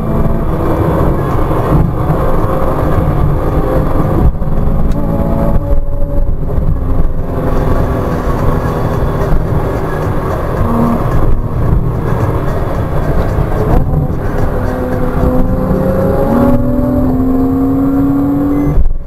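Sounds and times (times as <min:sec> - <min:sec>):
car engine accelerating hard: 0:00.0 - 0:19.0
road and tyre noise: 0:00.0 - 0:19.0.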